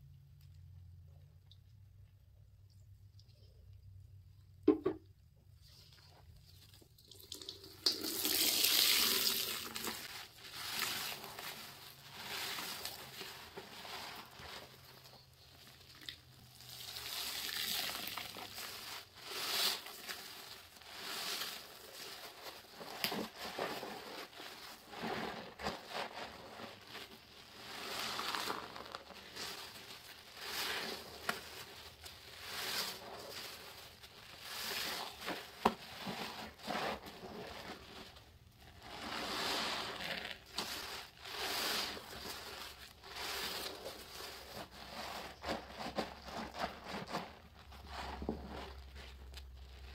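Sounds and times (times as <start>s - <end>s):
sponges squelching in soapy water: 5.6s - 49.9s
foam crackling: 8.6s - 49.9s.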